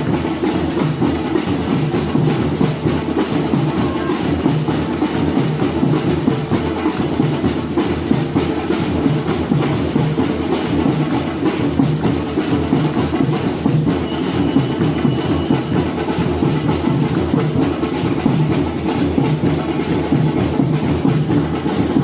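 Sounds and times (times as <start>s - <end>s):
samba percussion drumming: 0.0s - 22.0s.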